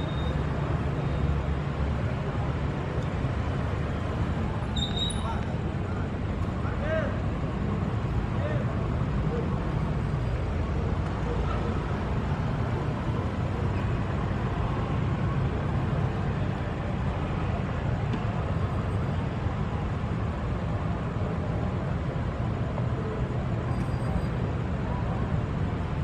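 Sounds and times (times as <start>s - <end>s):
city street traffic rumble: 0.0s - 26.0s.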